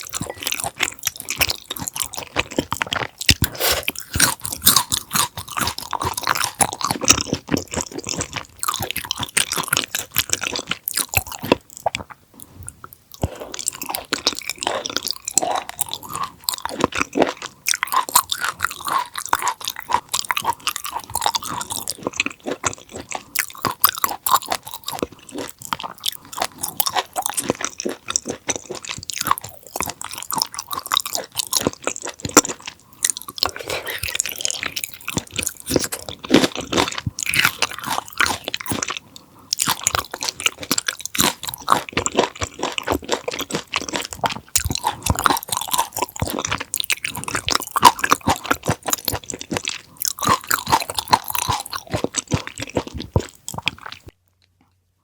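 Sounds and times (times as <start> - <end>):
chewing with wet mouth sounds: 0.0 - 54.8.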